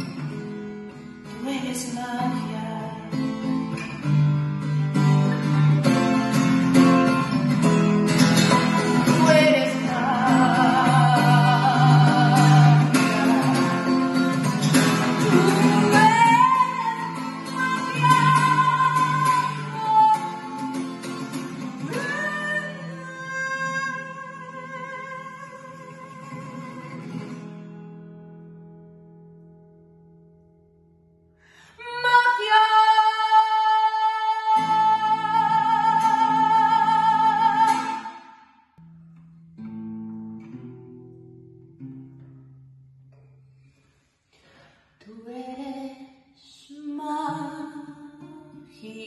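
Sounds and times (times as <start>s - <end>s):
acoustic guitar playing: 0.0s - 31.6s, 33.0s - 44.7s.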